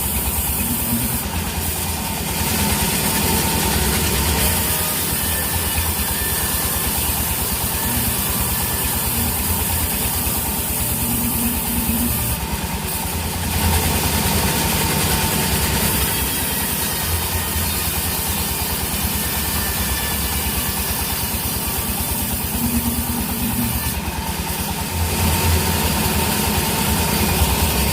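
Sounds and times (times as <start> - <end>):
engine running steadily: 0.0 - 27.9.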